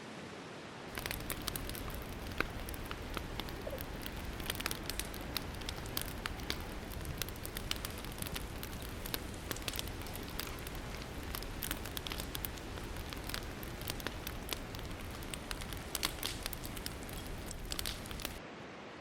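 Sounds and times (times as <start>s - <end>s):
campfire crackling and popping: 0.9s - 18.4s
fire hiss: 0.9s - 18.4s.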